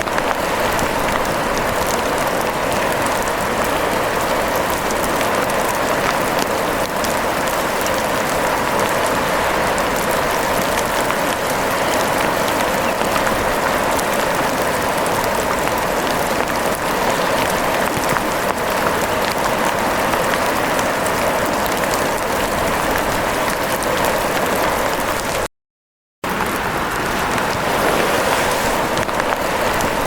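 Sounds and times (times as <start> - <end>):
steady rain: 0.0 - 25.5, 26.2 - 30.0.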